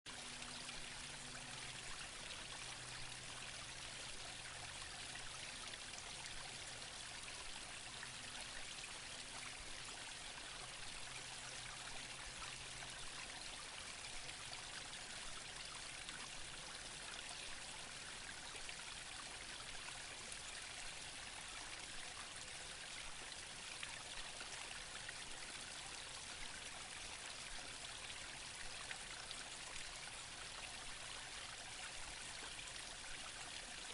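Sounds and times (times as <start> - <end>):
brook babbling: 0.1 - 33.9.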